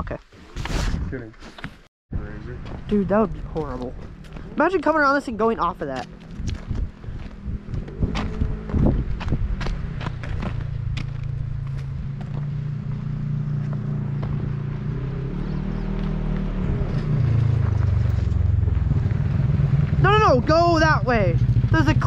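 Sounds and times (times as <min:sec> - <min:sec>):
dirt bike engine running: 0:02.4 - 0:22.0.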